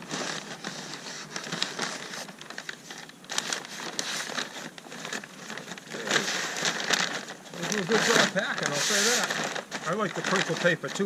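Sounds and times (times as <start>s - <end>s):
paper packing fill crackling: 0.0s - 11.0s.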